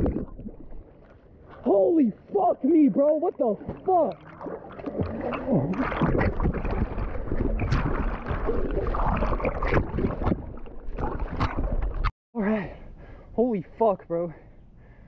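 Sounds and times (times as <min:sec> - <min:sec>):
low rumble of water: 0:00.0 - 0:12.1
water splashing and sloshing: 0:00.0 - 0:12.1.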